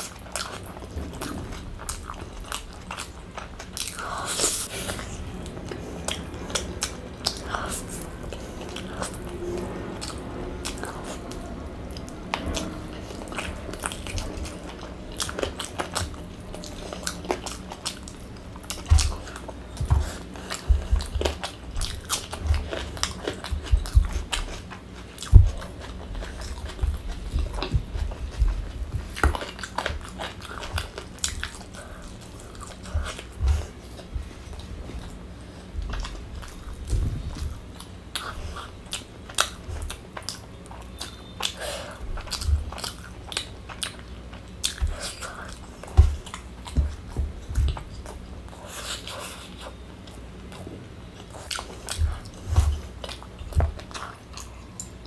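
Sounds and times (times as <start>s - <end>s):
close chewing and biting: 0.0s - 55.0s.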